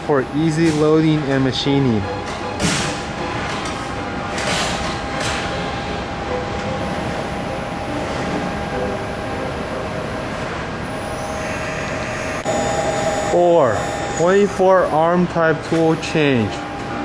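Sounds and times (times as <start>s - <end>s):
machining center running: 0.0s - 17.0s.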